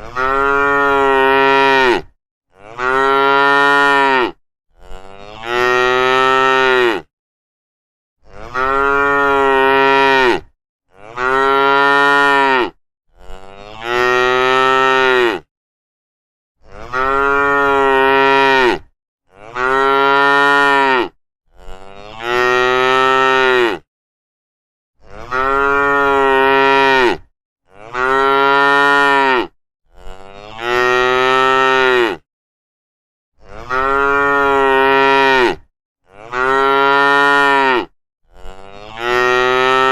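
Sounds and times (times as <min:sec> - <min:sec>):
cattle mooing: 0:00.0 - 0:07.1, 0:08.2 - 0:15.5, 0:16.8 - 0:23.8, 0:25.1 - 0:32.2, 0:33.5 - 0:39.9.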